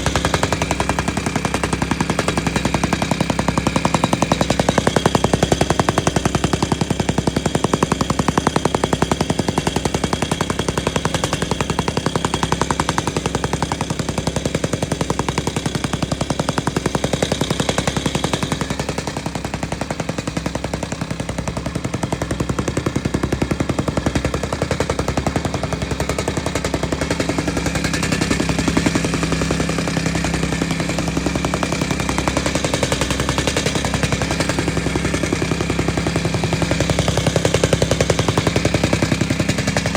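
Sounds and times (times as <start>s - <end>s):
tamping rammer pounding: 0.0s - 39.9s.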